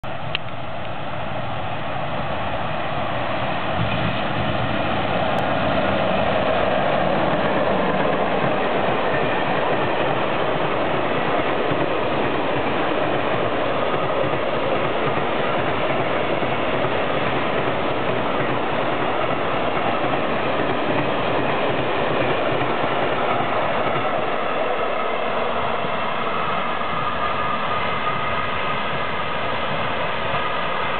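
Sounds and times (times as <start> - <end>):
electric locomotive passing: 0.0 - 30.9.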